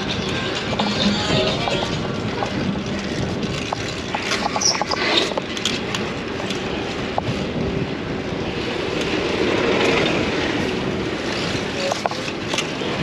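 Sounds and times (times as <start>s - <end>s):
city street traffic: 0.0s - 13.0s
wind from riding: 0.0s - 13.0s.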